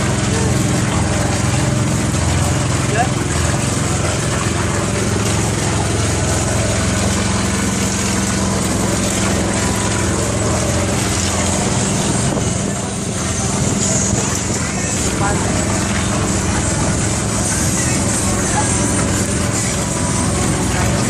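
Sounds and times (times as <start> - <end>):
small boat engine humming: 0.0 - 21.0.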